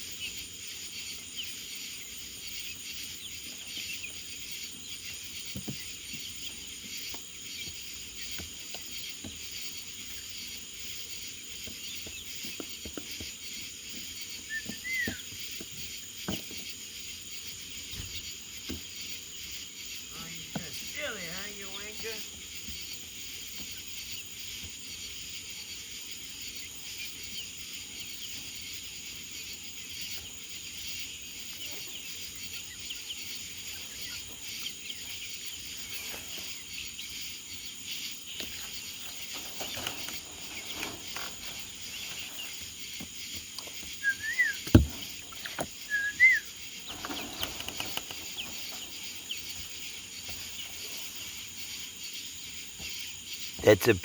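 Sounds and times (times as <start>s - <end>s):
birds chirping: 0.0s - 54.0s
crickets chirping: 0.0s - 54.0s.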